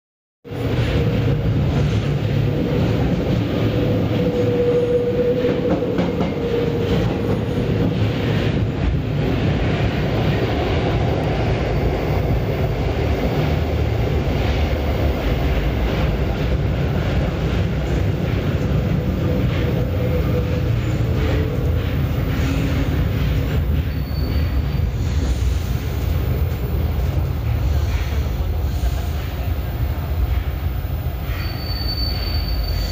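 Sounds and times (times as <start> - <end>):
metro train rumble and rattle: 0.4 - 32.9.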